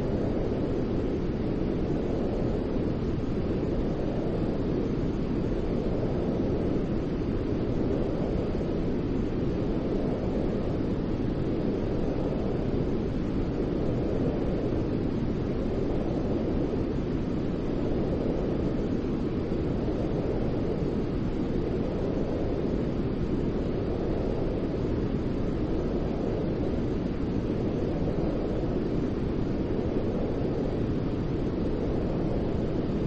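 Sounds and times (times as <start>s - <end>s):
deep white noise hiss: 0.0s - 33.0s.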